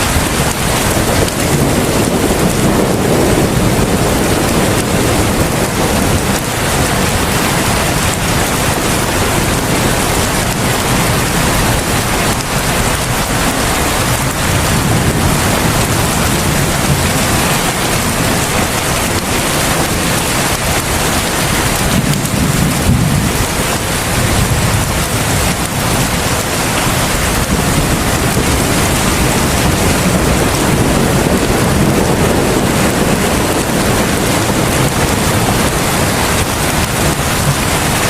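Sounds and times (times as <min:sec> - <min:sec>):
heavy rain hiss: 0:00.0 - 0:38.0.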